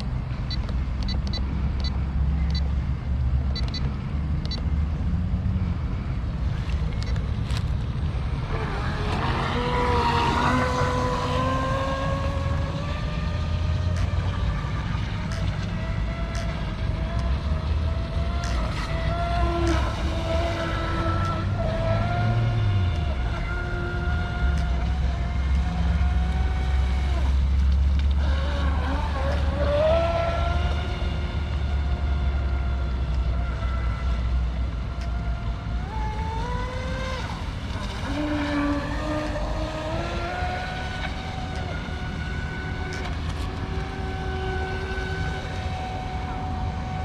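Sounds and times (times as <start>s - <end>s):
steady low rumble: 0.0s - 47.0s
electric motor whining: 8.3s - 34.4s, 35.0s - 47.0s.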